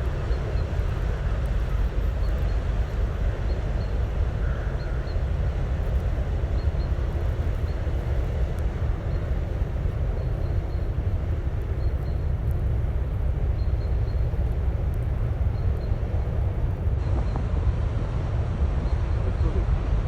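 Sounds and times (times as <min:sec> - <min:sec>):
cargo ship engine rumble: 0:00.0 - 0:20.0.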